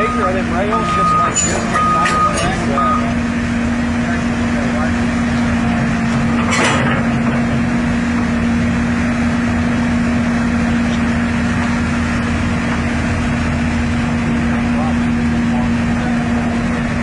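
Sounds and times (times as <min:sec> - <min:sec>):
excavator diesel engine humming: 0:00.0 - 0:17.0.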